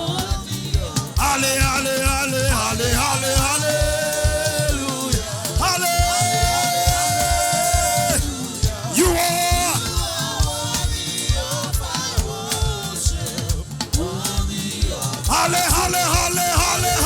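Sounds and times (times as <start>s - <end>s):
band with drums: 0.0s - 17.0s
gospel choir singing: 0.0s - 17.0s.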